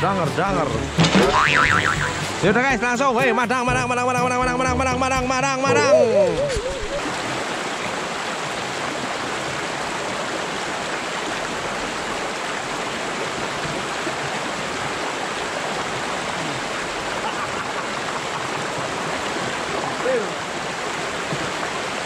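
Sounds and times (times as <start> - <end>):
stream rushing over rocks: 0.0 - 4.1, 5.7 - 22.0.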